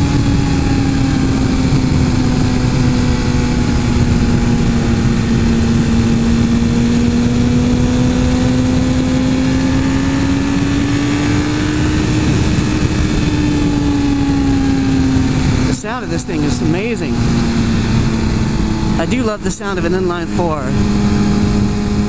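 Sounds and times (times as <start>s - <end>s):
heavy wind rush: 0.0s - 22.0s
motorcycle engine running: 0.0s - 22.0s.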